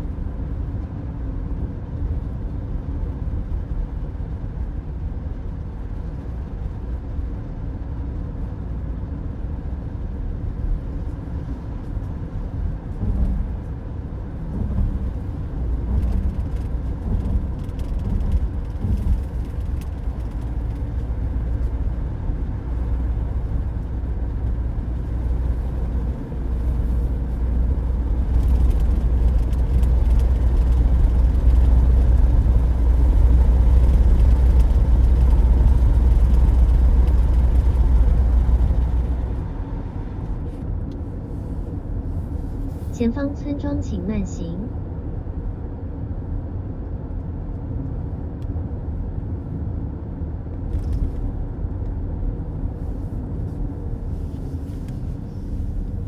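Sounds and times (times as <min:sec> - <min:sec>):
car road noise inside cabin: 0:00.0 - 0:56.0.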